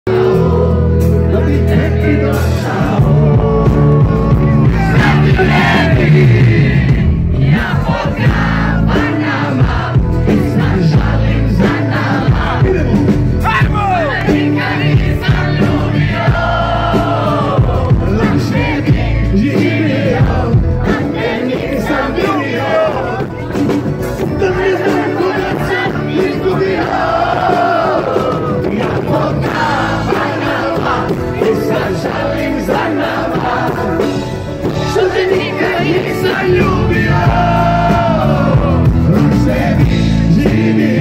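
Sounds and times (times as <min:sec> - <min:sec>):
man singing: 0:00.0 - 0:33.6, 0:34.6 - 0:41.0
live rock band: 0:00.1 - 0:41.0.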